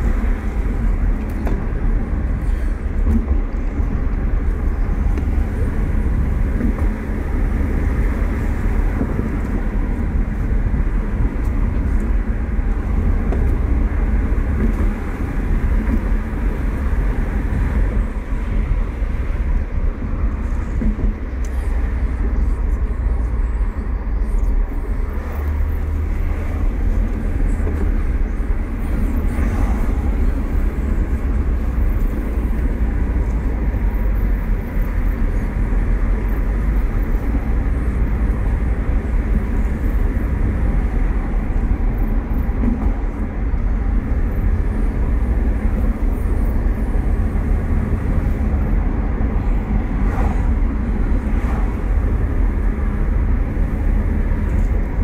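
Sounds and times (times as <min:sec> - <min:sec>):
car engine cruising: 0:00.0 - 0:55.0
tyre noise on road: 0:00.0 - 0:55.0.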